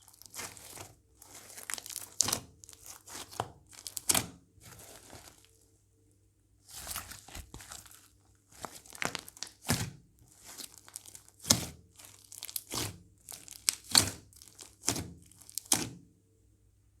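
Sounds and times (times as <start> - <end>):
slime squishing and crackling: 0.0 - 5.6, 6.7 - 16.0.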